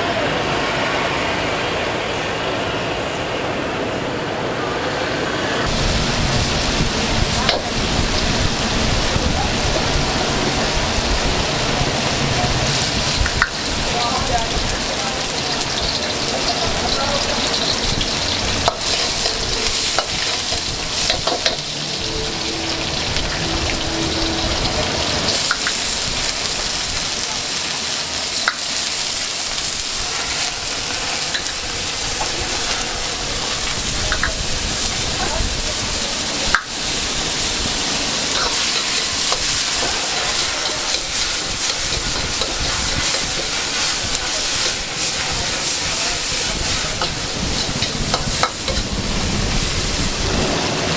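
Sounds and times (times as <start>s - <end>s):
rice sizzling in a wok: 5.6s - 50.9s.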